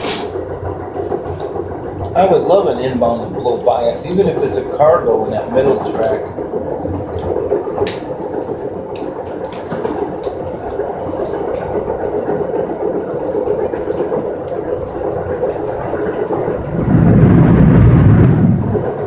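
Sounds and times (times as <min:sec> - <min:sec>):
train wheels rumbling on rail: 0:00.0 - 0:19.0
deeper rumble: 0:00.2 - 0:19.0.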